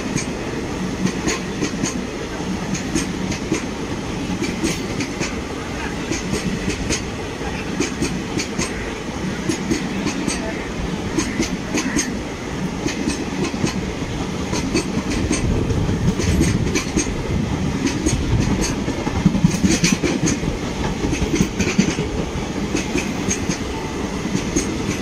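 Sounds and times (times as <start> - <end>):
clickety-clack over rail joints: 0.0 - 25.0
train wheels rumbling on rail: 0.0 - 25.0.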